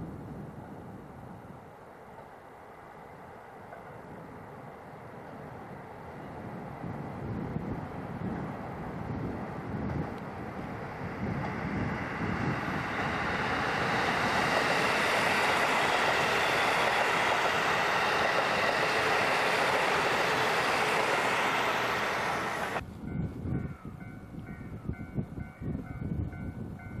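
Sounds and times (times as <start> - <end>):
diesel train passing: 0.2 - 27.0.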